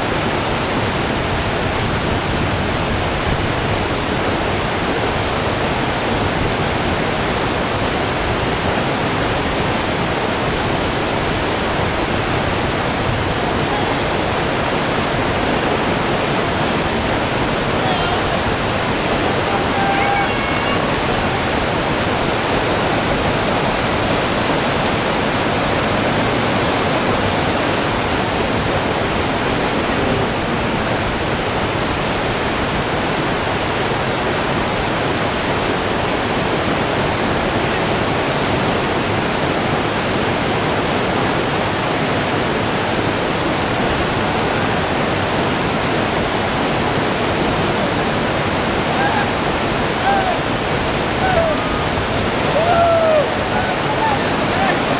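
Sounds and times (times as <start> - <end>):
river rapid rushing: 0.0 - 54.9.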